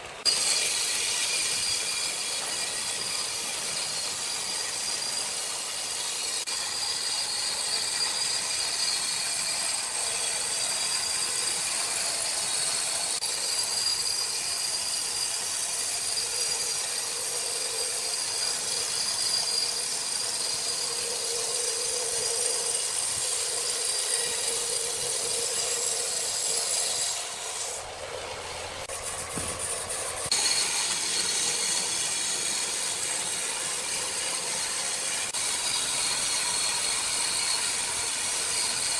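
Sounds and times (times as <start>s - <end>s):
sawmill machinery hissing: 0.0s - 38.9s.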